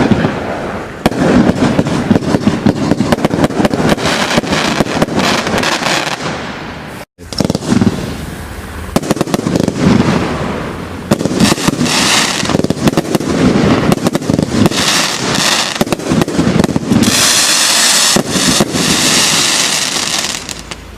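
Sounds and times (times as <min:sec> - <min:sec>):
dense crackling hiss: 0:00.0 - 0:20.9
firework bangs and crackles: 0:00.0 - 0:20.9.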